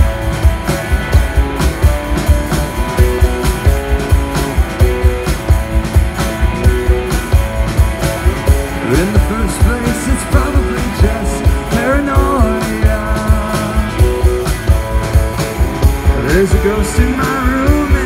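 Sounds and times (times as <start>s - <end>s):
rock band playing: 0.0s - 18.0s
sliding lead guitar: 0.0s - 18.0s.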